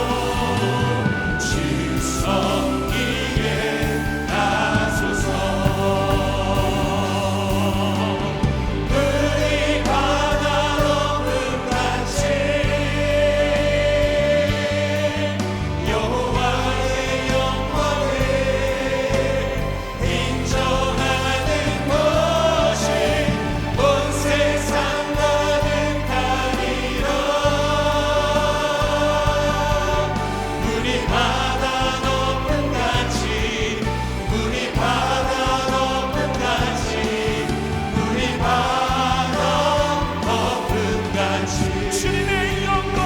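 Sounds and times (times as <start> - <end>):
church praise band playing: 0.0 - 43.0
voices singing: 0.0 - 43.0.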